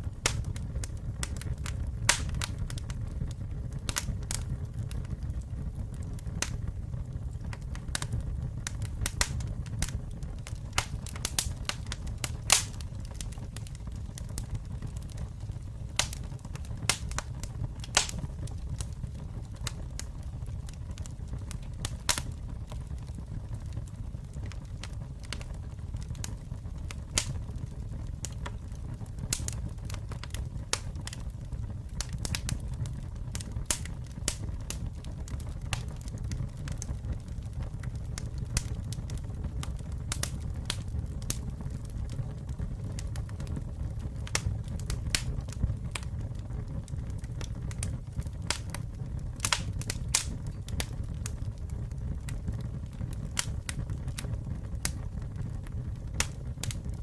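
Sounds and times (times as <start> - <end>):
burning wood crackling: 0.0 - 57.0
low rumble of flames: 0.0 - 57.0.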